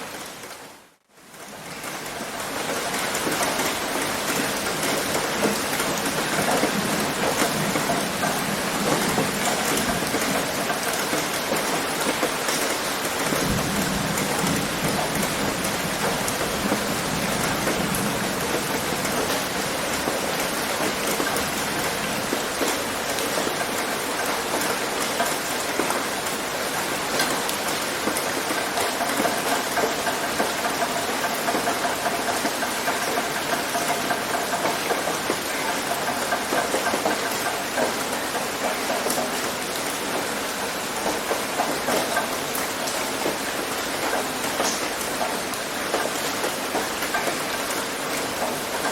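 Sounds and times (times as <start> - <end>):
heavy rain on a tin roof: 0.0 - 48.9.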